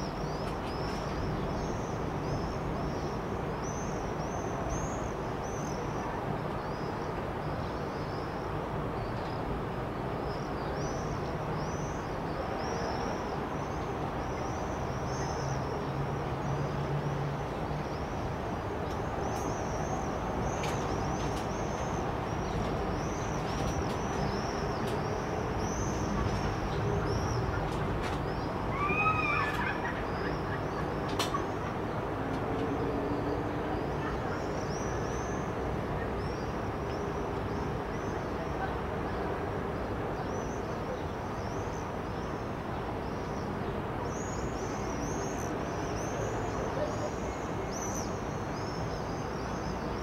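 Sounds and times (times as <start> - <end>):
outdoor background noise: 0.0 - 50.0.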